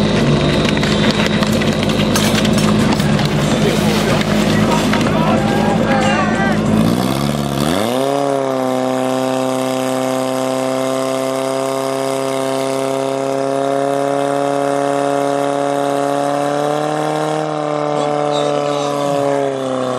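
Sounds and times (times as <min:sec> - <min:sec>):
fire pump engine running: 0:00.0 - 0:19.9.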